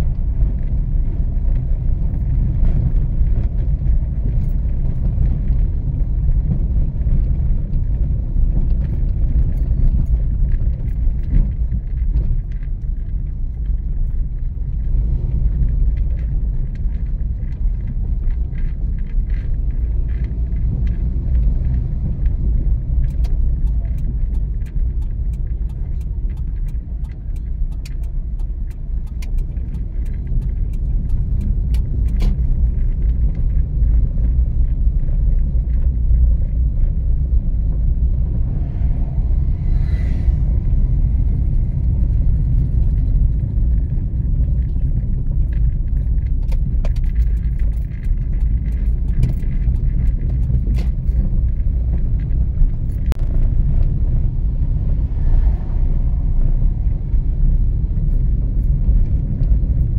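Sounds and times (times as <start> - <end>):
car engine and road noise: 0.0 - 59.9
light clicks and rattles: 1.6 - 37.0, 41.4 - 54.1.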